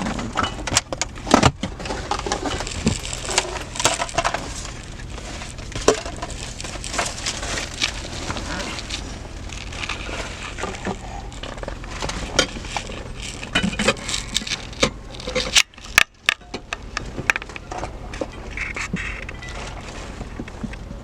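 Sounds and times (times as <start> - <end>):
rummaging clicks and knocks: 0.0 - 21.0.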